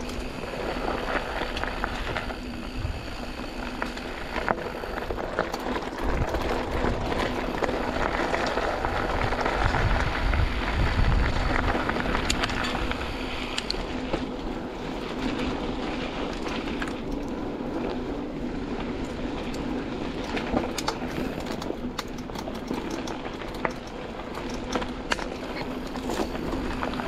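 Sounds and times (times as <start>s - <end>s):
bike clicks and rattles: 0.0s - 27.0s
bike tyres on loose ground: 0.0s - 27.0s.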